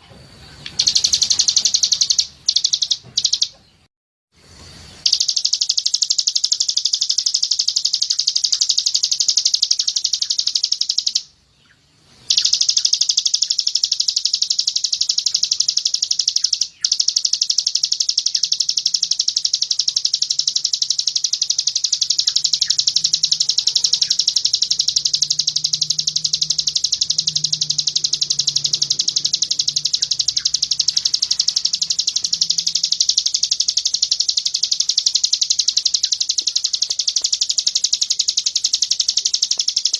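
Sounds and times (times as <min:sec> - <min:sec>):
songbird rapid trill: 0:00.0 - 0:03.6, 0:04.6 - 0:39.9.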